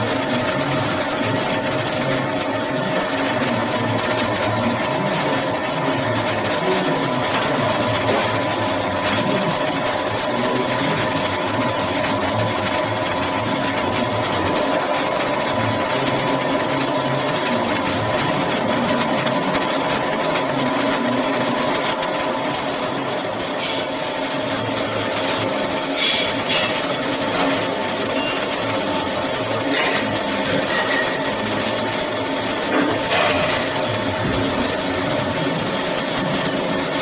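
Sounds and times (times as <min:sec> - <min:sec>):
grinding machine humming: 0:00.0 - 0:37.0.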